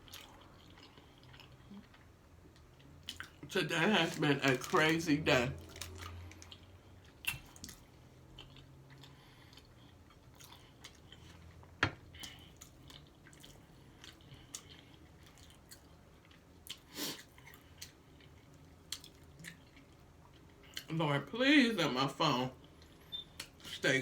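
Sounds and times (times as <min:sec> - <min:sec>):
person chewing food: 0:00.0 - 0:03.5, 0:05.6 - 0:20.9, 0:22.6 - 0:23.7.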